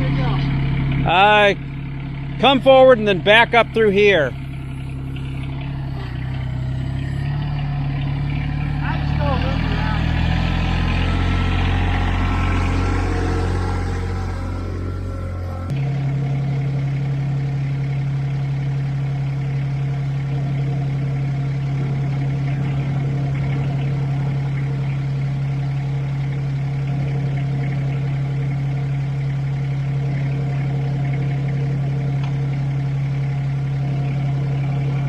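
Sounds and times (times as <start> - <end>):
tractor diesel engine droning: 0.0 - 35.0.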